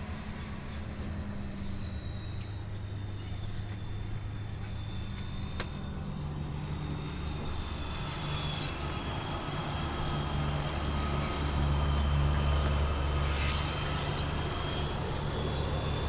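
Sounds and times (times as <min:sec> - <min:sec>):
thin high whine: 0:00.0 - 0:16.0
truck engine running: 0:00.0 - 0:16.0.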